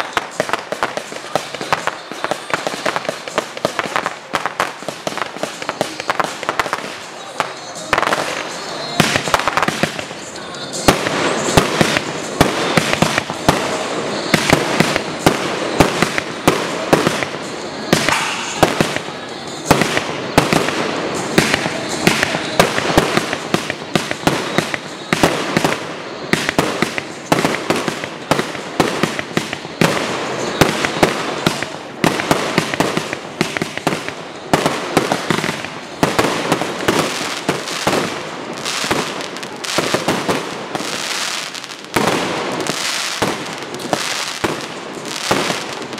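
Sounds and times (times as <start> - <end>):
fireworks bursting in rapid bangs: 0.0 - 45.9.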